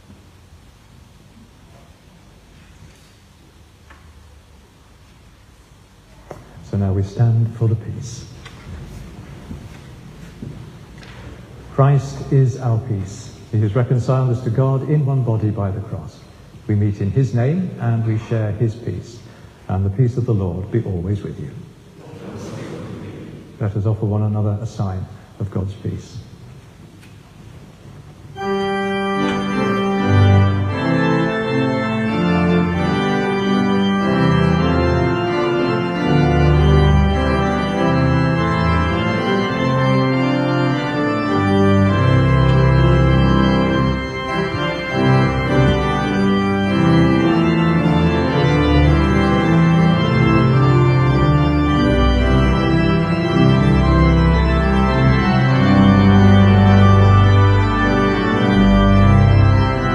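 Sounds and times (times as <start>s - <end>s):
church organ chords: 5.8s - 21.8s, 27.7s - 59.9s.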